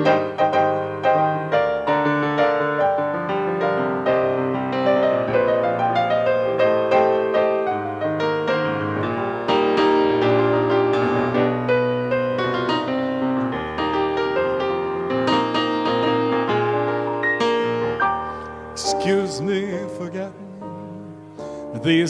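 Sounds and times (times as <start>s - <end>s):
solo piano: 0.0s - 22.0s.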